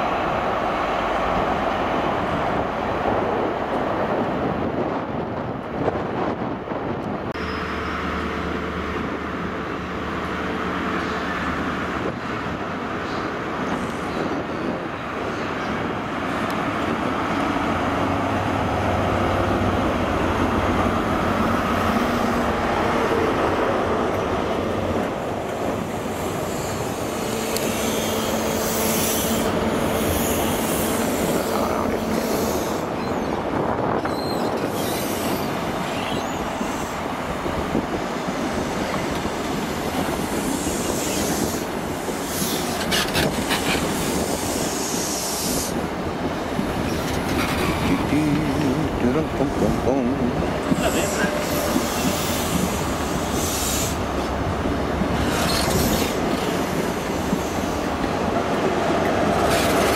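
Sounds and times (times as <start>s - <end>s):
train coaches rolling on rails: 0.0s - 59.9s
diesel train engine humming: 7.3s - 59.9s.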